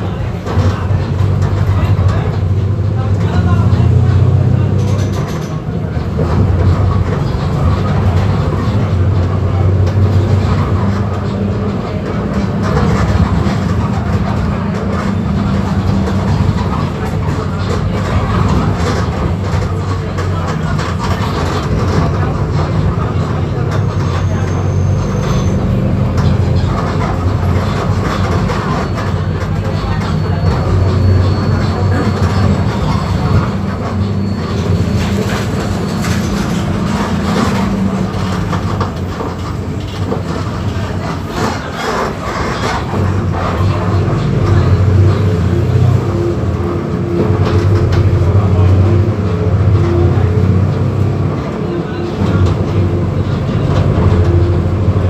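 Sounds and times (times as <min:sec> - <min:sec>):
bus body rattling: 0:00.0 - 0:55.0
bus diesel engine droning: 0:00.0 - 0:55.0.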